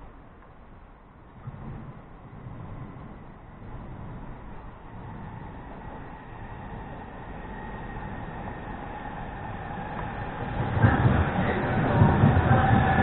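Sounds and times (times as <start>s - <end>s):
train whine: 0.0s - 13.0s
wheels rumbling on rail: 0.0s - 13.0s
electric train approaching: 0.9s - 13.0s.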